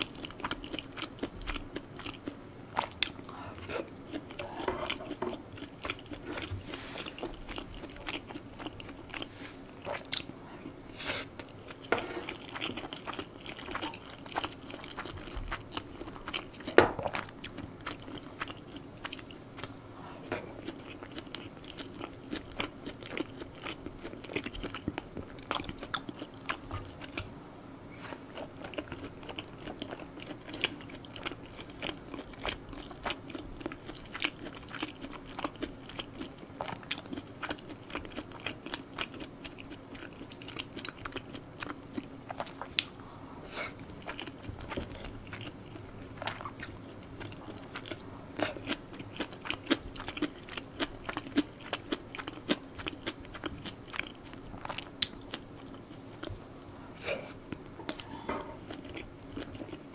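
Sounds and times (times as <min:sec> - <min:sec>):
close chewing and biting: 0:00.0 - 0:10.4, 0:11.3 - 0:27.3, 0:28.1 - 0:43.0, 0:43.7 - 0:56.8, 0:57.5 - 0:59.9.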